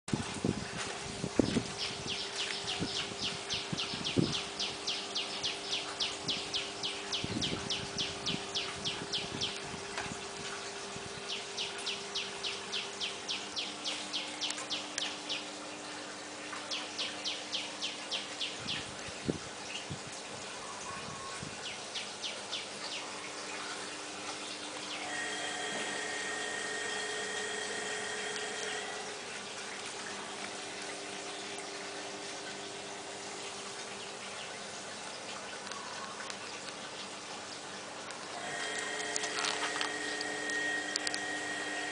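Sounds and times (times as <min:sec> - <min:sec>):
faint steady hum: 0:00.1 - 0:41.9.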